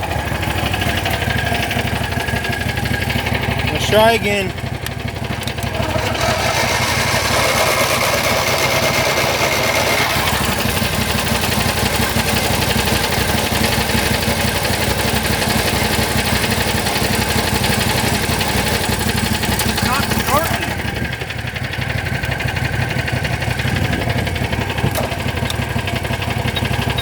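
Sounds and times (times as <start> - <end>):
small engine idling: 0.0 - 27.0
starter motor cranking: 0.0 - 27.0.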